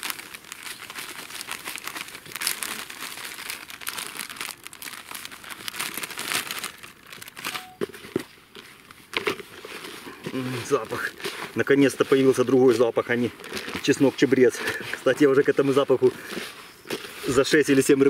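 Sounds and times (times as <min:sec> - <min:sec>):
plastic packet crinkling: 0:00.0 - 0:18.0.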